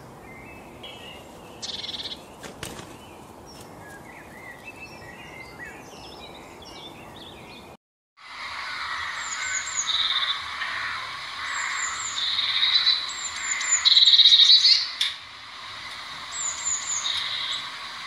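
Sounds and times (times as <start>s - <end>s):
small bird singing: 0.0s - 7.8s, 8.7s - 15.1s, 16.2s - 18.0s.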